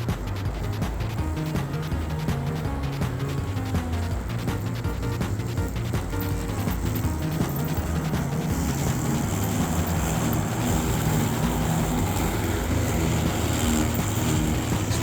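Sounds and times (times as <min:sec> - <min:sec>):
electric lawnmower whirring: 0:00.0 - 0:15.0.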